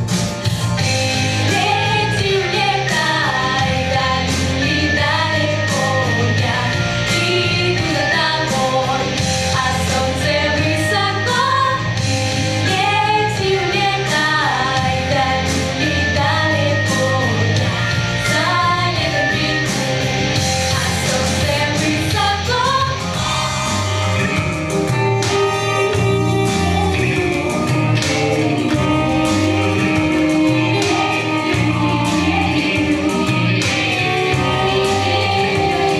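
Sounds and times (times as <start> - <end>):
band playing bass drums and guitar: 0.0 - 35.9
vocal ensemble singing: 0.8 - 35.9.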